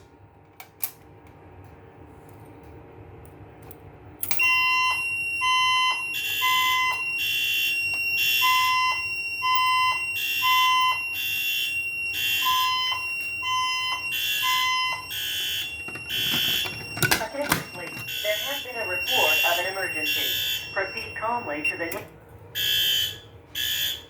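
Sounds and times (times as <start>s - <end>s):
steady high alarm tone: 4.4s - 24.0s.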